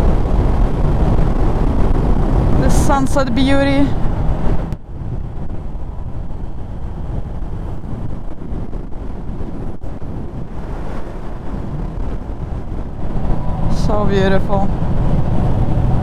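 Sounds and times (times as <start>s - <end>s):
motorcycle road noise: 0.0s - 16.0s
wind on microphone: 0.0s - 16.0s.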